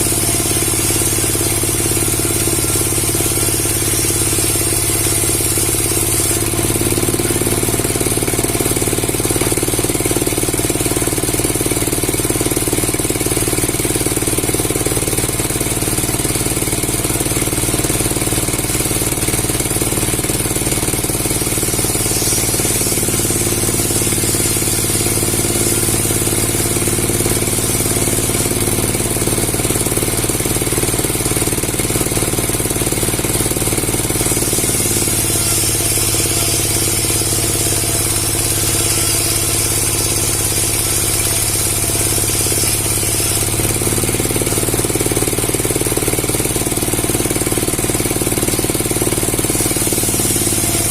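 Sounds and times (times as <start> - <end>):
machine motor hum and hiss: 0.0 - 50.9.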